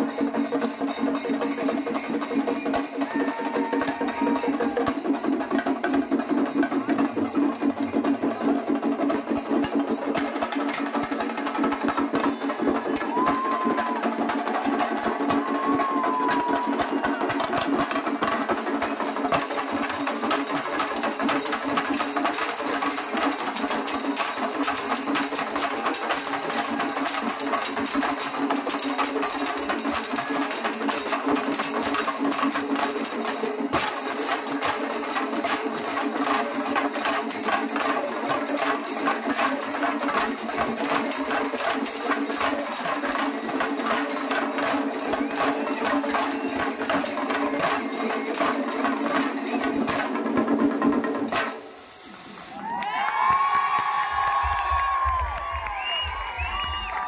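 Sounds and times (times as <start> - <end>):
hand cymbals ringing: 0.0 - 17.0, 18.8 - 50.9
drums in fast roll: 0.0 - 51.8, 52.4 - 57.0.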